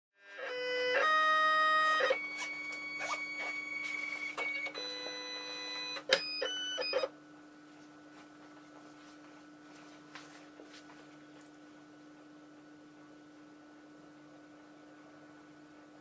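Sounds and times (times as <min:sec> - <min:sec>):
faint steady hum: 0:00.2 - 0:16.0.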